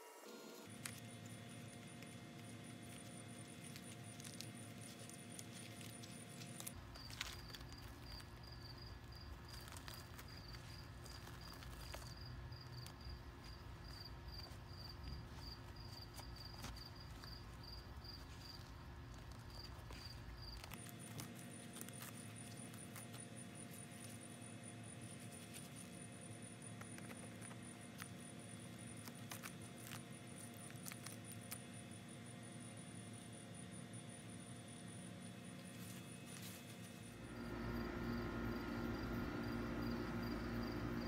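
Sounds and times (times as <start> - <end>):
insects chirping: 0.7 - 41.0.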